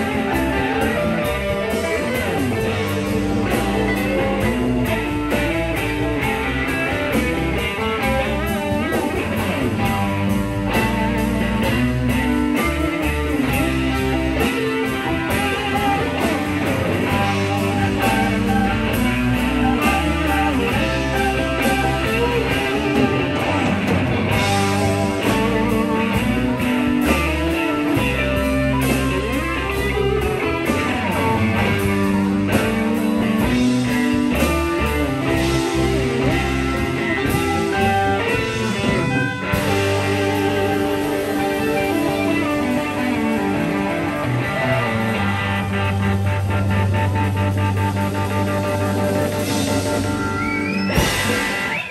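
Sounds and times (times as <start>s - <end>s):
blues band playing: 0.0s - 51.9s
electric guitar lead with bent notes: 0.0s - 51.9s.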